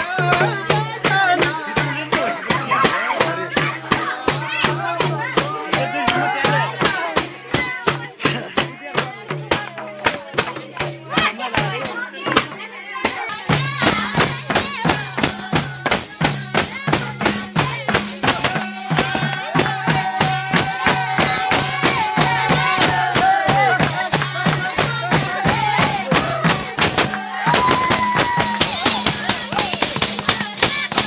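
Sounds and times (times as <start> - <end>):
jingling percussion beat: 0.0 - 31.0.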